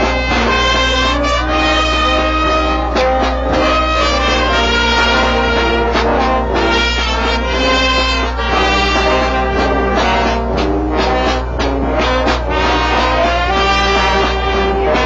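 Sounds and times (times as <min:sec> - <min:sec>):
brass band playing: 0:00.0 - 0:15.0
drum strokes: 0:00.0 - 0:15.0.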